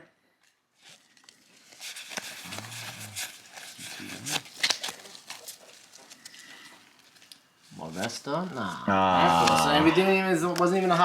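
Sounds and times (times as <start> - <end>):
trading cards rustling: 0.8 - 11.0.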